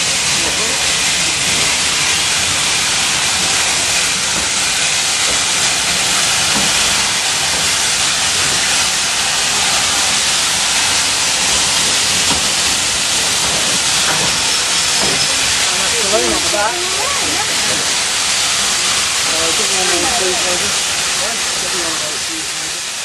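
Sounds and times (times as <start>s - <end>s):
railway carriages rumbling: 0.0s - 23.0s
steam hissing: 0.0s - 23.0s.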